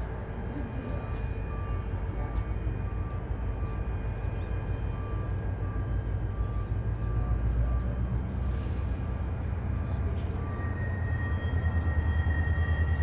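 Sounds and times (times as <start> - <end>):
diesel locomotives idling: 0.0 - 13.0
faint beeping tone: 0.5 - 8.7, 9.6 - 13.0.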